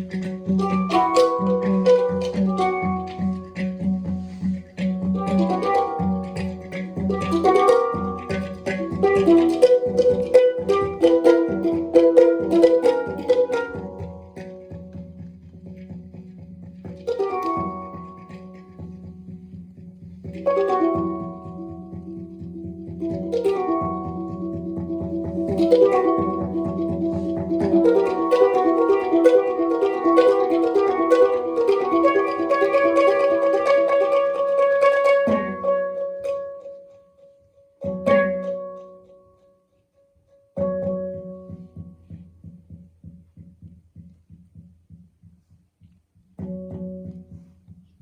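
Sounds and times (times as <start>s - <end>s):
low sustained tone: 0.0s - 39.4s
quick plucked instrumental notes: 0.0s - 39.5s, 40.5s - 45.6s, 46.2s - 48.0s.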